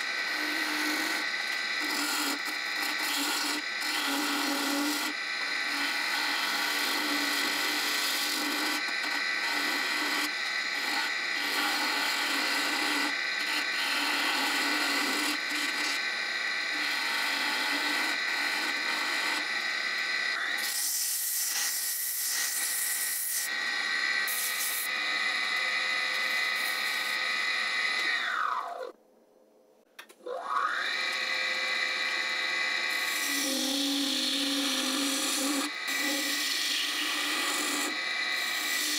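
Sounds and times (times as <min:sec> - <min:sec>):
wood lathe whine: 0:00.0 - 0:29.0, 0:30.3 - 0:38.9.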